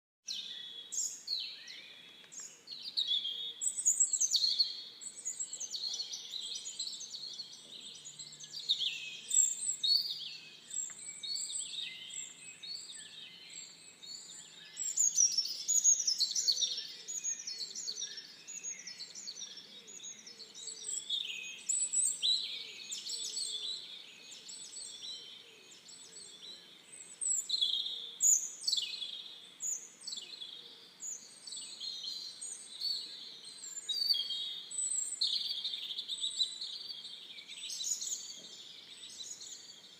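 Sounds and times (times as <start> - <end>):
songbirds chirping: 0.2 - 39.9.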